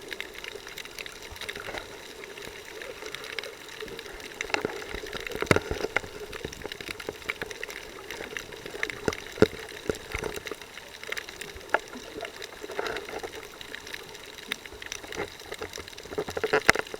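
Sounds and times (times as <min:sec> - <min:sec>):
sharp clicks and crackles: 0:00.0 - 0:16.9
water sloshing and bubbling: 0:00.0 - 0:16.9.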